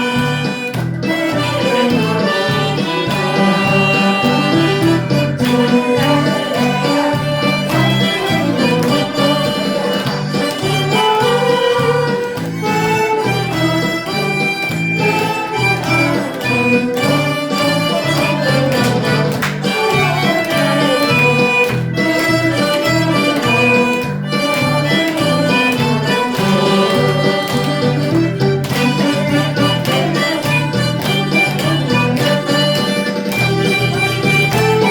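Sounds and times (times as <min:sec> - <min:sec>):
harmonica melody: 0:00.0 - 0:34.9
rhythmic bass beat: 0:00.0 - 0:34.9.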